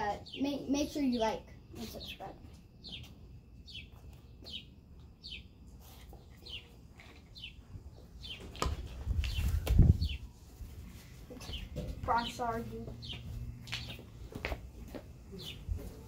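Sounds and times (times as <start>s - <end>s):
bird chirping: 0.0s - 10.3s, 11.3s - 14.1s, 15.3s - 15.7s.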